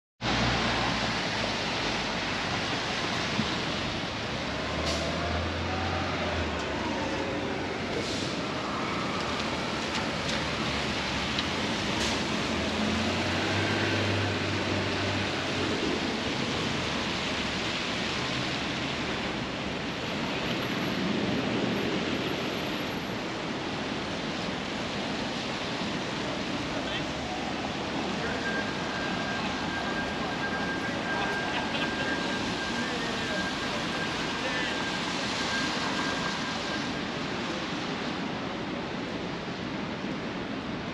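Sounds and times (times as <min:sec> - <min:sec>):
passing vehicles rumbling: 0:00.2 - 0:40.9
rain on a street: 0:00.2 - 0:40.9.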